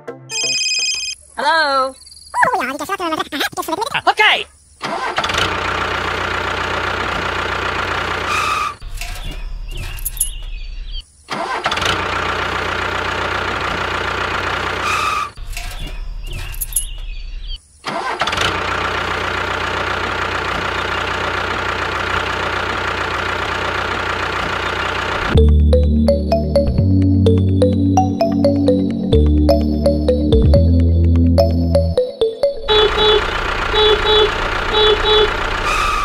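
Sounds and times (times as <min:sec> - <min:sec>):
engine running: 0:05.0 - 0:10.5, 0:11.7 - 0:17.0, 0:18.0 - 0:36.0.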